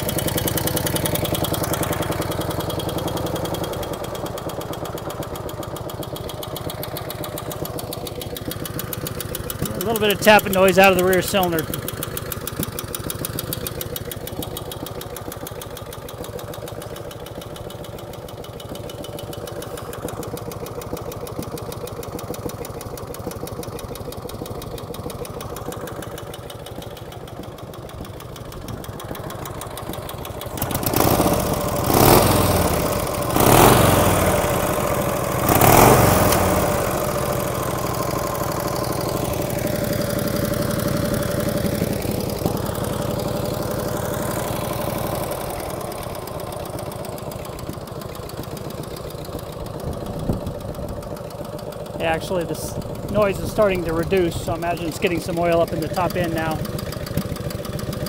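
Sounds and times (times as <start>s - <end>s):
engine tapping: 0.0s - 58.0s
motorcycle engine idling: 0.0s - 58.0s.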